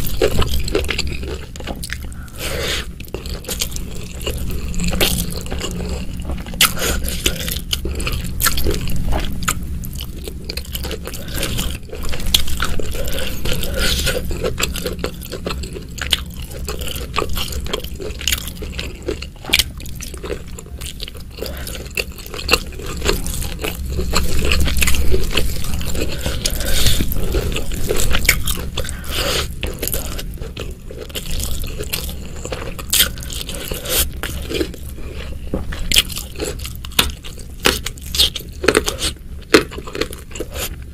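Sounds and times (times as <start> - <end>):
biting and wet chewing: 0.0 - 40.9
steady low hum: 0.0 - 40.9.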